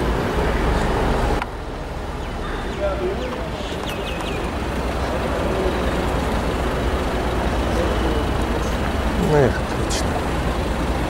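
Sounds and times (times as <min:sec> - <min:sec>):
road vehicles rumbling: 0:00.0 - 0:11.0.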